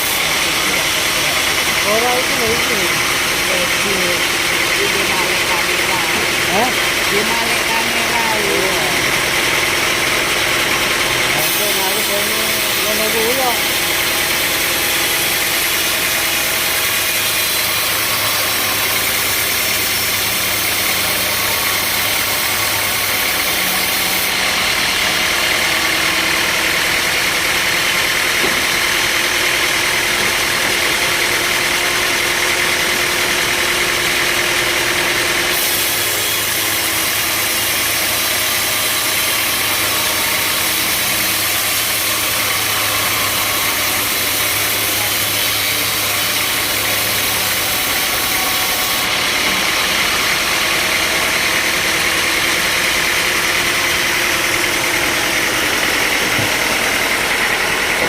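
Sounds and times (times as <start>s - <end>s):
sawmill machinery engine running: 0.0s - 58.0s.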